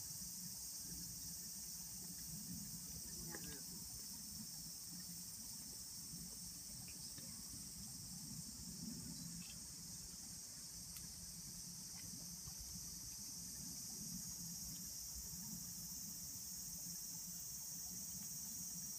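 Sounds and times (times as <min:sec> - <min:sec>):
cicadas buzzing: 0:00.0 - 0:18.9.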